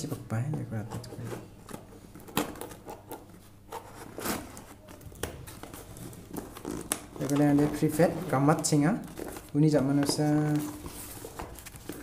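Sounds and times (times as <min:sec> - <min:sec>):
tape and cardboard crinkling: 0:01.0 - 0:12.0.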